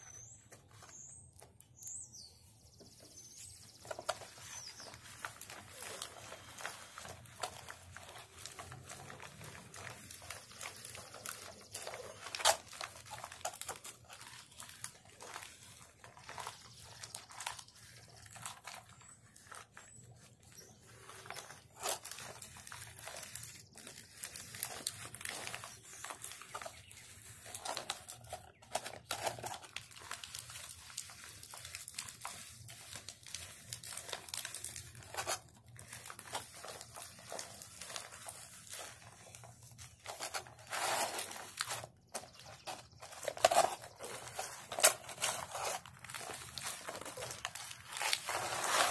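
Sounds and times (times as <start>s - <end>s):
hide crinkling and crackling: 0.0s - 48.9s.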